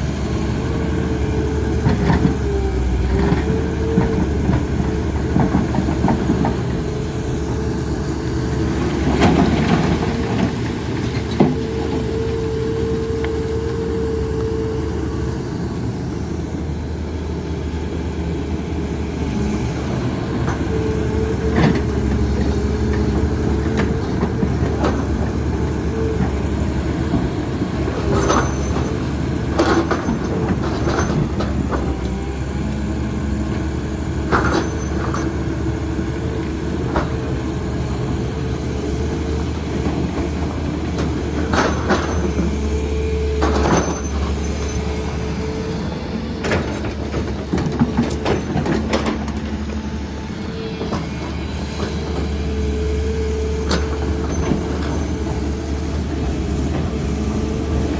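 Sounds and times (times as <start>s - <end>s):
excavator diesel engine droning: 0.0s - 57.9s.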